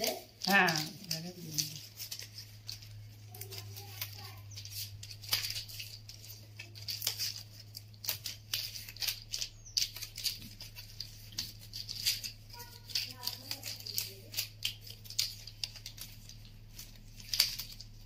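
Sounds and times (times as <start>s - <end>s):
dry palm fronds rustling: 0.0s - 18.0s.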